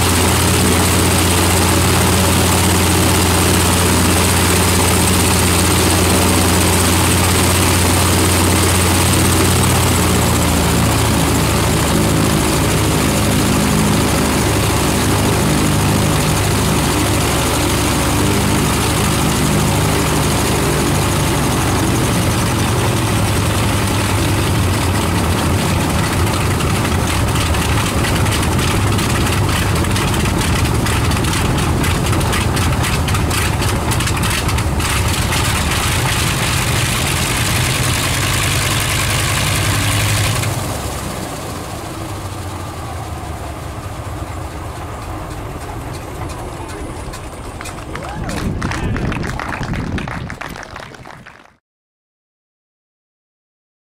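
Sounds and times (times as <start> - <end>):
radial aircraft engine and propeller: 0.0 - 49.7.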